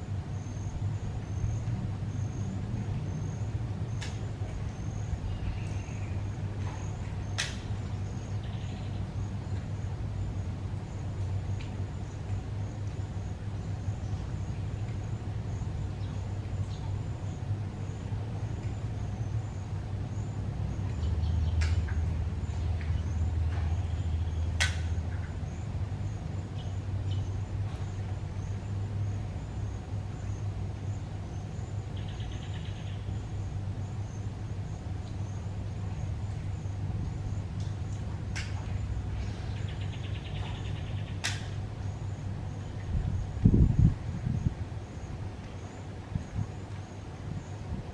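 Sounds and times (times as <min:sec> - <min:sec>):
low rumble of road traffic: 0:00.0 - 0:47.9.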